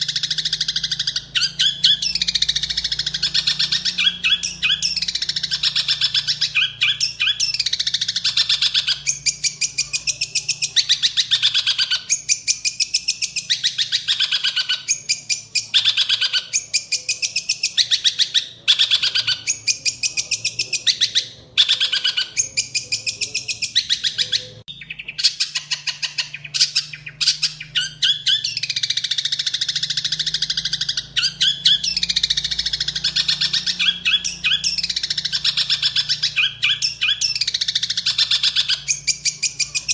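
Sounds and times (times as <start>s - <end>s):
bird singing rapid chattering notes: 0.0s - 39.9s.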